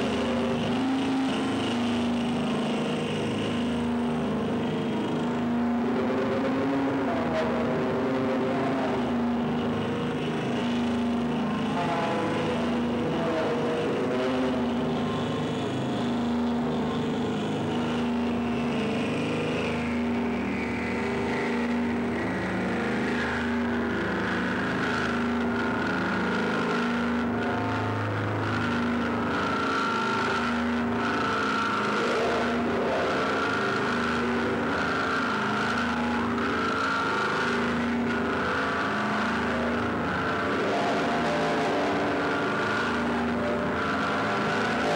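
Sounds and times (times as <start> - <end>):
synthesizer drone music: 0.0 - 44.9.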